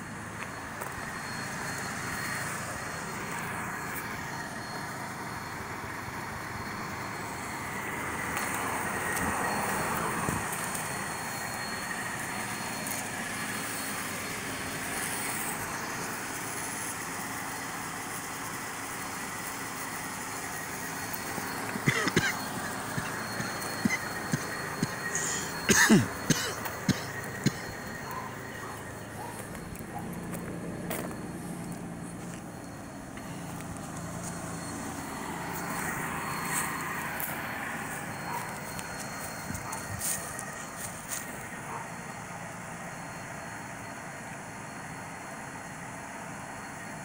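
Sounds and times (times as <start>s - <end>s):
outdoor traffic noise: 0.0s - 47.0s.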